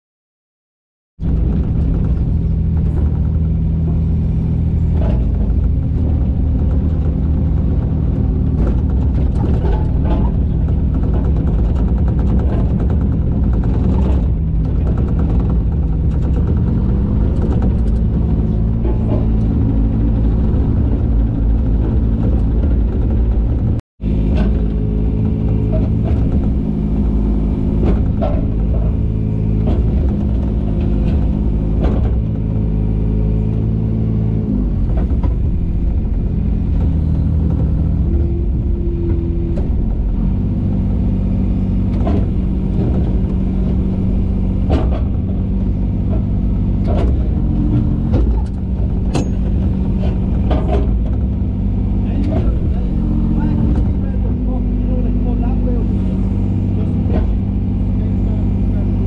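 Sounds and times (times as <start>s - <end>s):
excavator diesel engine running: 1.2s - 59.0s.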